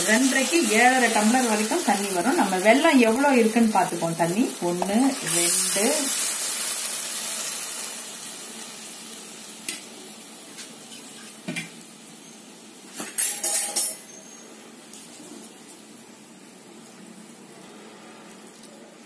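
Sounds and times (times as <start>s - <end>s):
liquid sizzling in hot pan: 0.0s - 18.7s.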